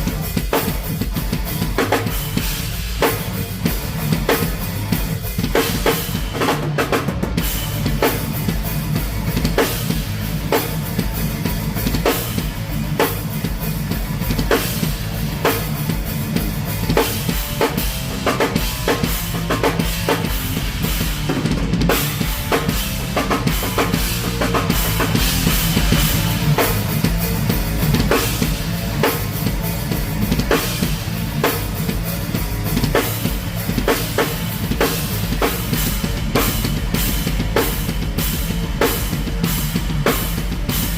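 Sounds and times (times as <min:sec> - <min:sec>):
live band playing: 0:00.0 - 0:40.9.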